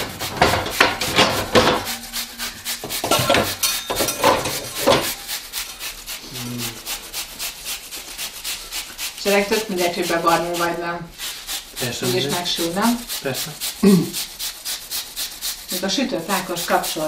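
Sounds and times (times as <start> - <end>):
apple grated on metal grater: 0.0 - 17.0.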